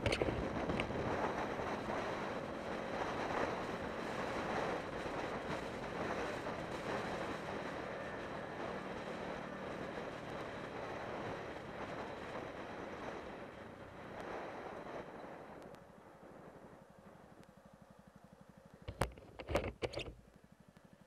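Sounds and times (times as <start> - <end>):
wind rushing over camera: 0.0 - 17.5
motorcycle engine running: 0.0 - 21.0.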